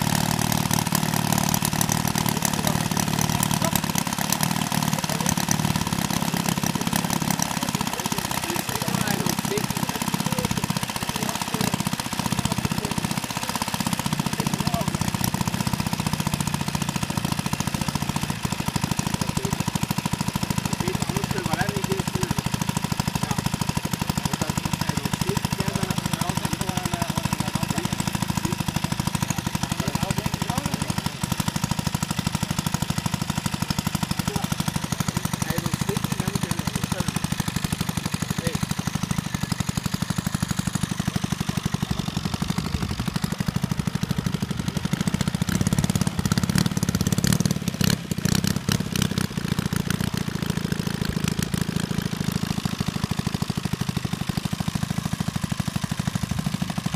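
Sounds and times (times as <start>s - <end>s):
model plane engine running: 0.0s - 56.9s.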